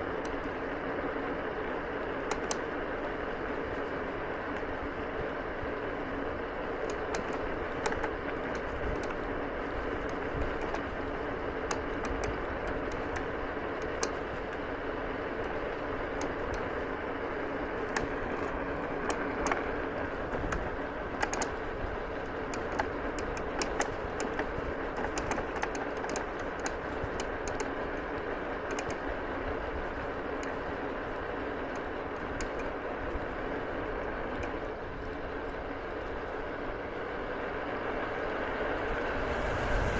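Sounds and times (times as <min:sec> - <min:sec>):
scooter tyres rolling on gravel: 0:00.0 - 0:39.9.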